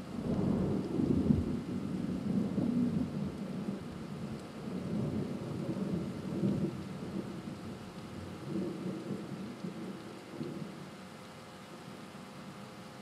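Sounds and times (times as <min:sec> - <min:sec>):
rain: 0:00.0 - 0:13.0
thunder rumbling: 0:00.2 - 0:10.8.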